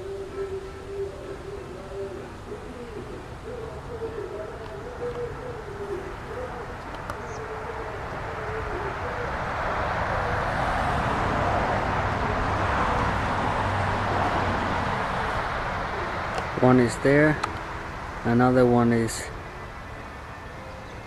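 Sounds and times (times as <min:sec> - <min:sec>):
rushing noise: 0:00.0 - 0:20.9
bird hooting: 0:00.0 - 0:21.0.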